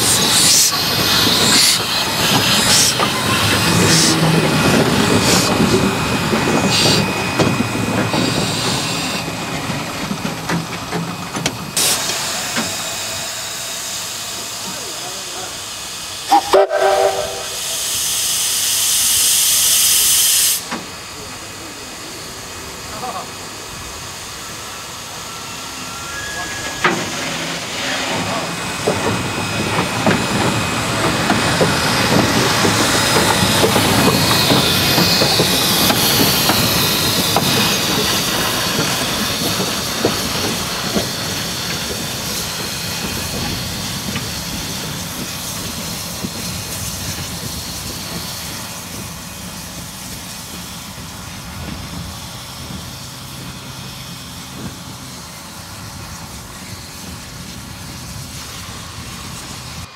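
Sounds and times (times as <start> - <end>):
train wheels clicking over rail joints: 0.0 - 25.3, 26.3 - 59.9
steam hissing: 0.0 - 59.9.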